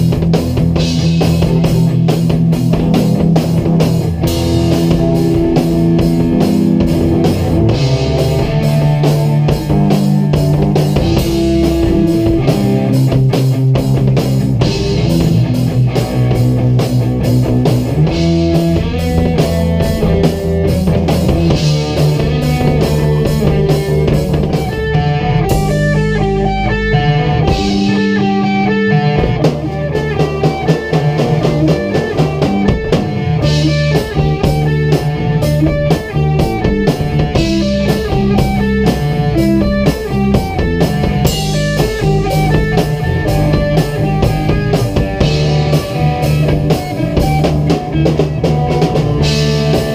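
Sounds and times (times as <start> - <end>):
drum kit beat: 0.0 - 49.9
rock band playing: 0.0 - 49.9.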